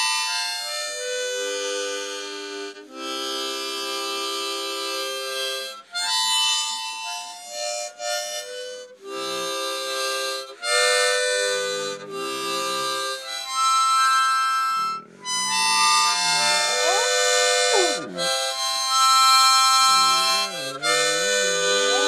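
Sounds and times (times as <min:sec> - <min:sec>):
harmonica chords: 0:00.0 - 0:22.0.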